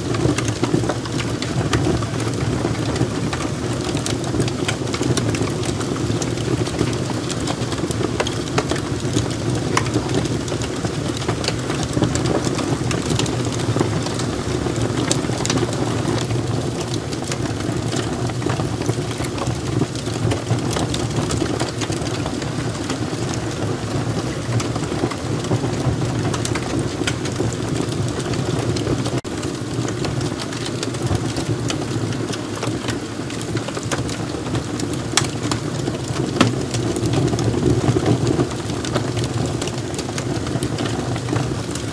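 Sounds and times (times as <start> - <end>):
fire crackling and popping: 0.0 - 41.9
fire rushing in fireplace: 0.0 - 41.9.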